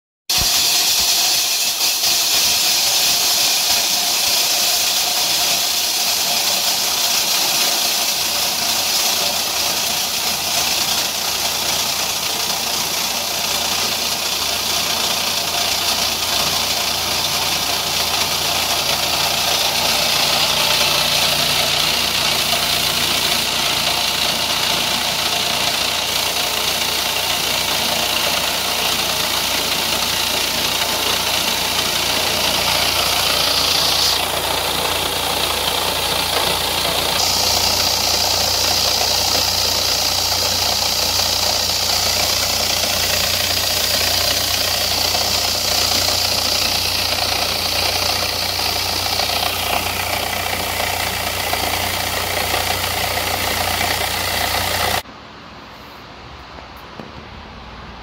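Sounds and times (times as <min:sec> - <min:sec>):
plastic crusher grinding: 0:00.3 - 0:55.0.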